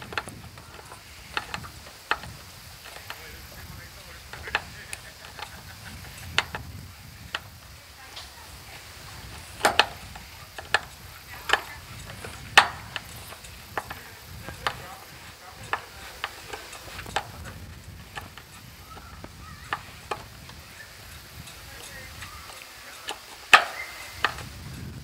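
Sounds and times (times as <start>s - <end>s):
screwdriver clicking: 0.0s - 7.6s, 8.2s - 24.7s.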